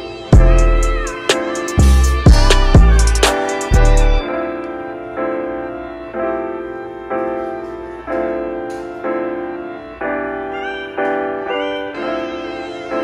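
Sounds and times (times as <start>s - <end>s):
background music chords: 0.0s - 13.0s.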